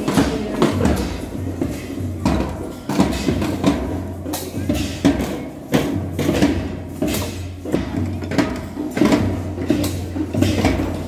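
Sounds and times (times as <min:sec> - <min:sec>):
crowd chatter: 0:00.0 - 0:11.0
marching band drums: 0:00.0 - 0:11.0.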